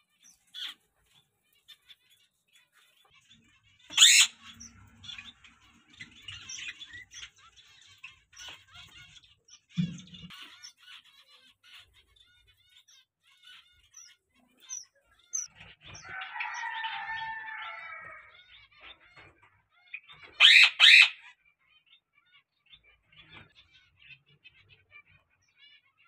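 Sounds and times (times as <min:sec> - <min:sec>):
cage birds chirping: 0:00.0 - 0:26.0.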